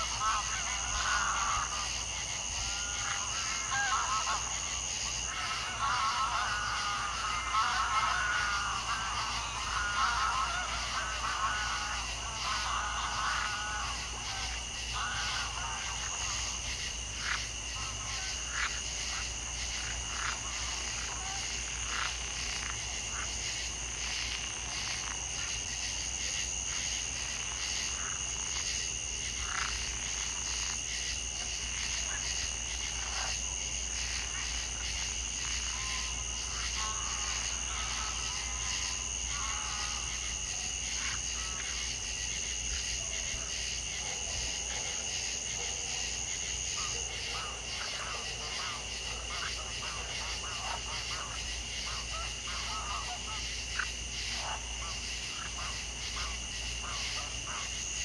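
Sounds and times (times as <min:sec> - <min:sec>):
frogs calling: 0:00.0 - 0:58.0
high-pitched insect whine: 0:00.0 - 0:58.0.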